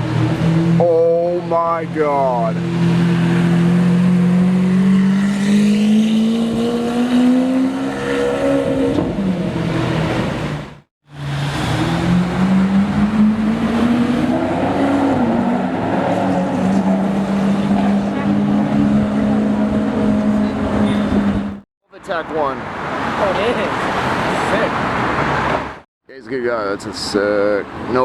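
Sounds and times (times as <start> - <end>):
car engines accelerating: 0.0 - 25.8.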